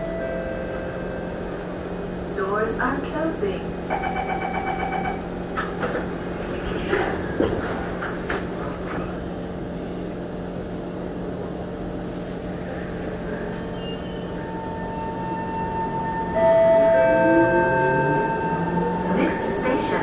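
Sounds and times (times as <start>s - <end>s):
standing train hum: 0.0s - 20.0s.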